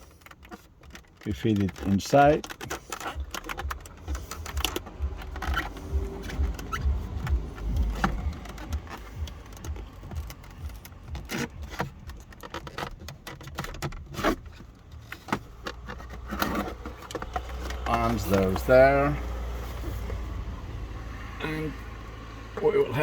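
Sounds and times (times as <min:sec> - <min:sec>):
clicks knocks and scrapes of plastic: 0:00.0 - 0:20.6.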